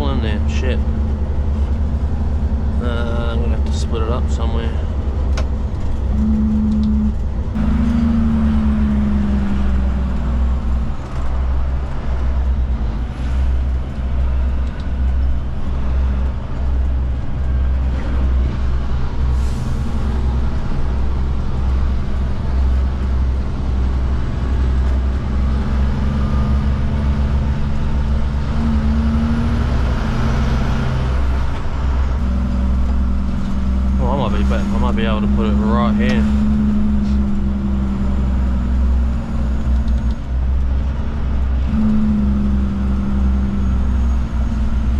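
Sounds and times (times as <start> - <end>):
diesel truck engine drone: 0.0 - 44.9.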